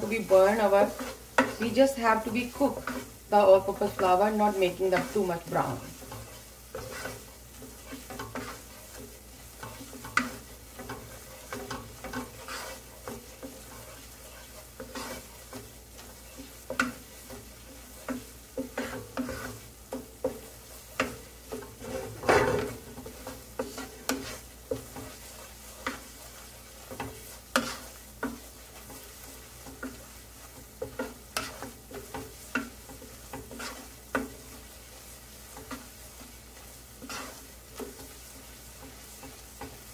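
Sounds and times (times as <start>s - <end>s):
sizzling in frying pan: 0.0s - 39.9s
wooden spatula scraping pan: 0.0s - 39.9s.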